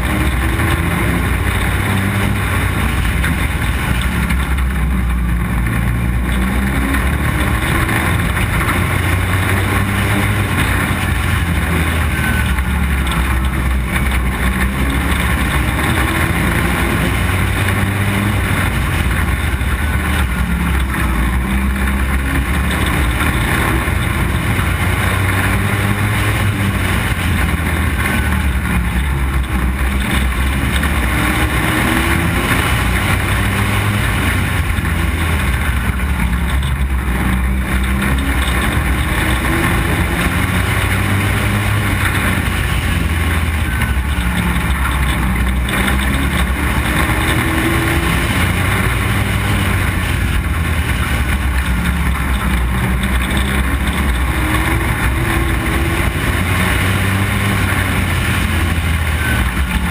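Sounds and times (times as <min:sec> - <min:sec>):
race car engine running hard: 0:00.0 - 0:59.9
wind and road noise: 0:00.0 - 0:59.9.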